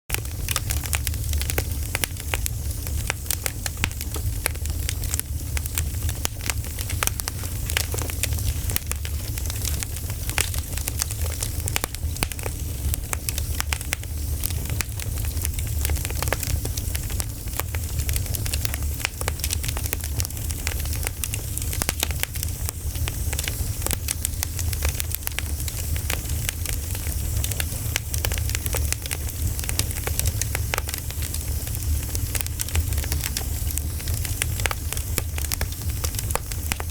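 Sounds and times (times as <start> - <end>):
campfire crackling and popping: 0.1 - 36.9.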